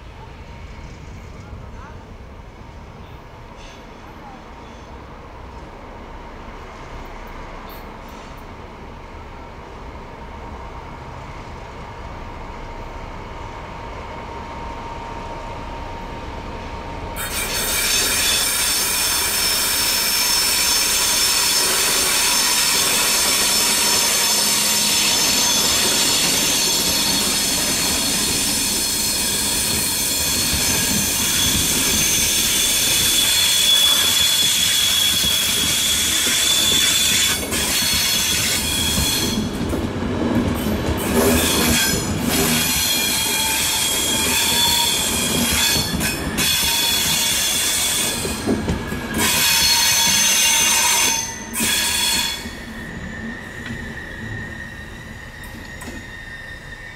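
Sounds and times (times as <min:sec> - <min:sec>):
train rumble: 0:00.0 - 0:56.9
train wheels squealing on rails: 0:02.7 - 0:05.2, 0:06.7 - 0:08.6, 0:14.5 - 0:56.9.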